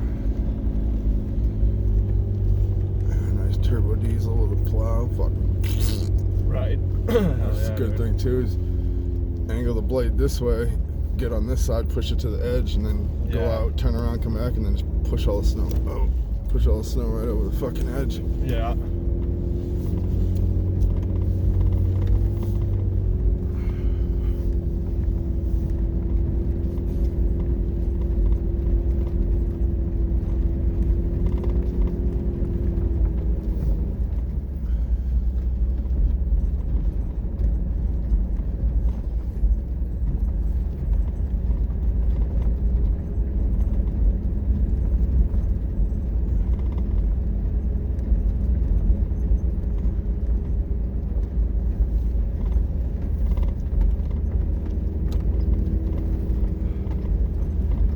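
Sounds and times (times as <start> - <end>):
vehicle engine rumbling: 0.0 - 57.9.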